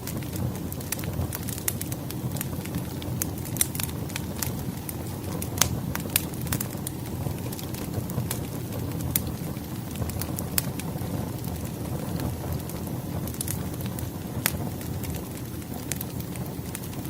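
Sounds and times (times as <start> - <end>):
bonfire pops and snaps: 0.0 - 17.0
low roar of burning wood: 0.0 - 17.0.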